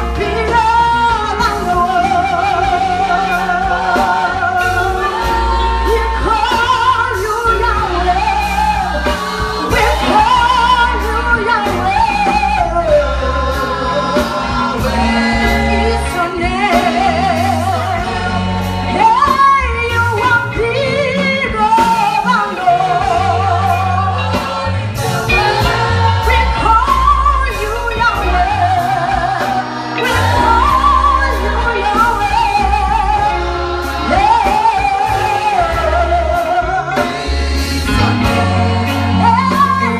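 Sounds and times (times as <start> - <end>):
sustained bass accompaniment: 0.0 - 39.9
voices singing praise song: 0.0 - 39.9.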